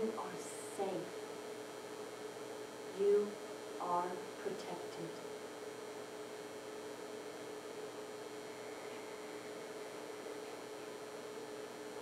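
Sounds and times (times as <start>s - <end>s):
electrical hum: 0.0s - 12.0s
soft hiss: 0.0s - 12.0s.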